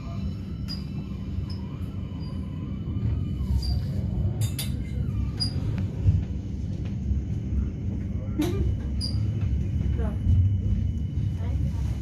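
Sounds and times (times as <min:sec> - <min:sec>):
train carriage rumbling on track: 0:00.0 - 0:12.0.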